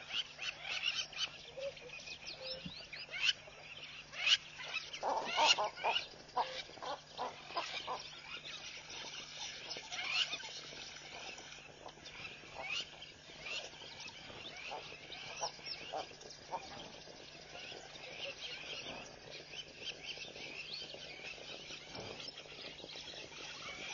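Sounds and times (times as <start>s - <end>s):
faint steady hum: 0.0s - 23.9s
high chirping animal calls: 0.0s - 23.9s.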